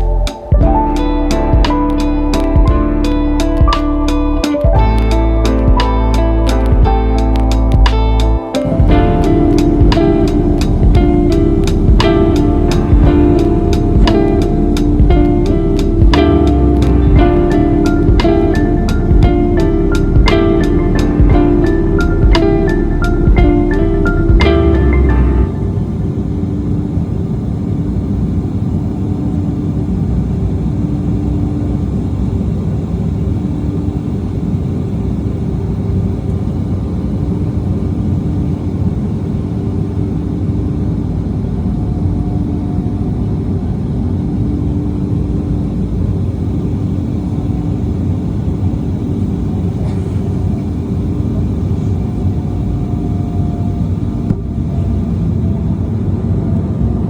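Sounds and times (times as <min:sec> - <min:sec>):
airliner cabin engine rumble: 0:08.6 - 0:57.0
faint hum: 0:08.6 - 0:57.0.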